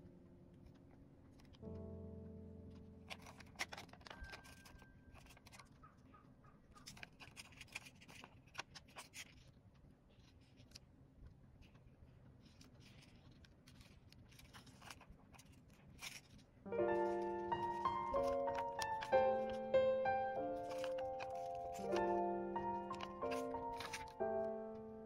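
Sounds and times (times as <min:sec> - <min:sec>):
plastic sheet clicking and crinkling: 0:02.7 - 0:05.9, 0:06.8 - 0:25.0.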